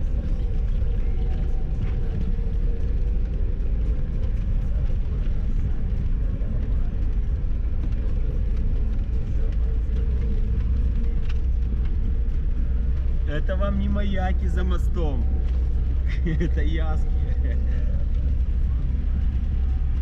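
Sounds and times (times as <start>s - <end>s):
low engine rumble inside car: 0.0s - 20.0s.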